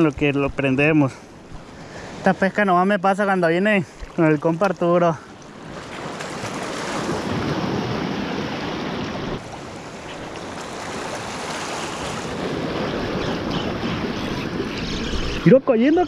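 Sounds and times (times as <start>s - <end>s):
small waves lapping: 0.0s - 2.6s, 3.4s - 15.6s.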